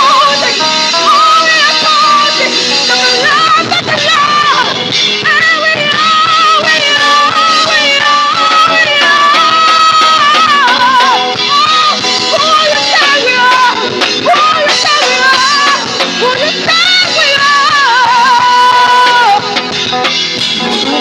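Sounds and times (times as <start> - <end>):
live worship band music: 0.0 - 21.0.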